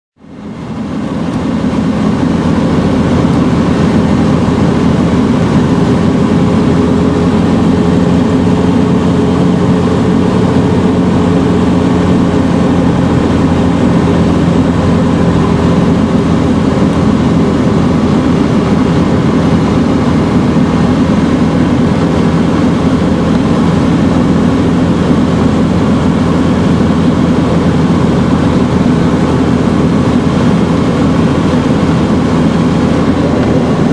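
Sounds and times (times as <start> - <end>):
propeller engine running: 0.2 - 33.9
rushing airflow: 0.2 - 33.9.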